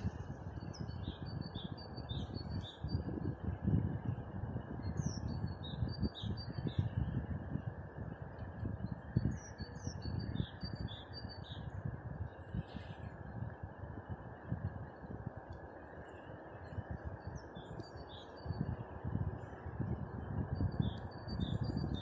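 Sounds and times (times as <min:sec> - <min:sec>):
rushing wind with gusty rumbles: 0:00.0 - 0:22.0.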